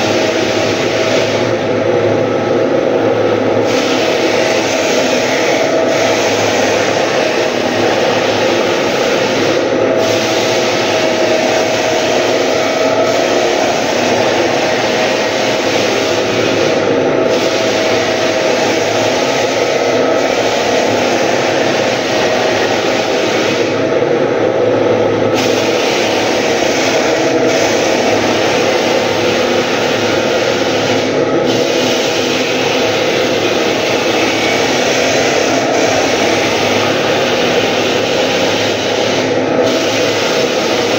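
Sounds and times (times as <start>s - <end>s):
floor sander motor hum: 0.0s - 40.9s
sanding drum grinding wooden floor: 3.5s - 23.8s, 25.4s - 40.9s.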